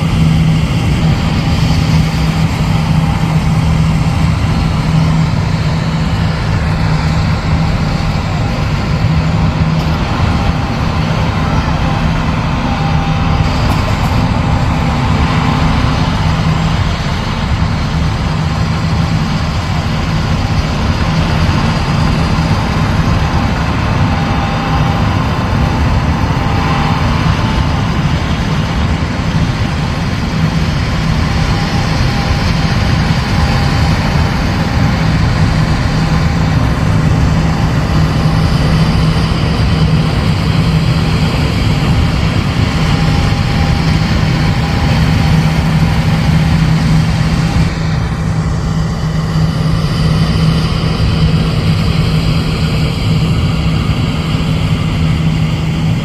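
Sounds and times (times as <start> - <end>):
diesel engine hum: 0.0 - 56.0
thin steady whine: 0.0 - 56.0.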